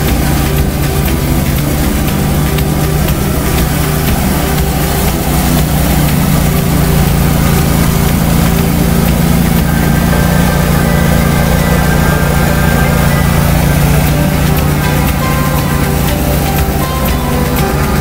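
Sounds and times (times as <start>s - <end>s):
power trowel engine running: 0.0s - 18.0s.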